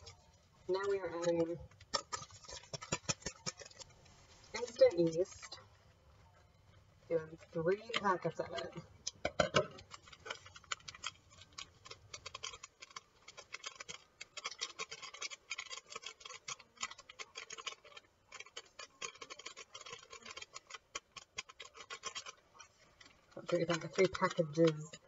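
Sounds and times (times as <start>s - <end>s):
packets crinkling and ticking: 0.0s - 25.0s.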